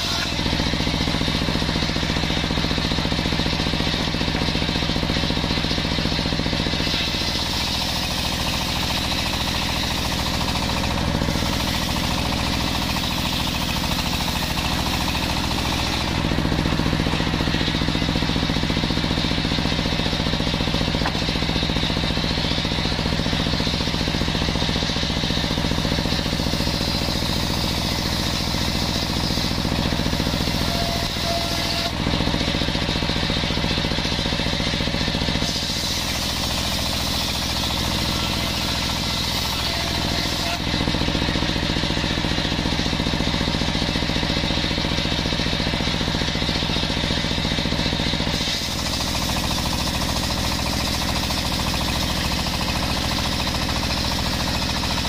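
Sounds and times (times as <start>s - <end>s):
circular saw ripping timber: 0.0s - 55.0s.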